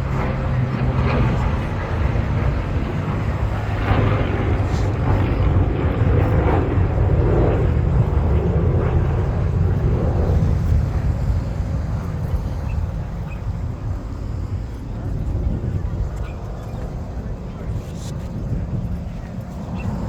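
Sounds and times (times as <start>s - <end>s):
plane engine drone: 0.0s - 20.0s.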